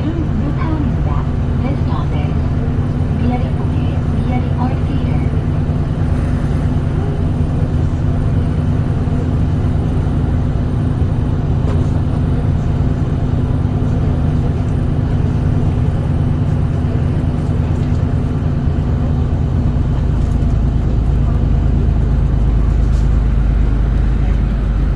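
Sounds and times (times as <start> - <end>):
bus engine drone: 0.0 - 24.9
constant low hum: 0.0 - 24.9
road noise: 0.0 - 24.9.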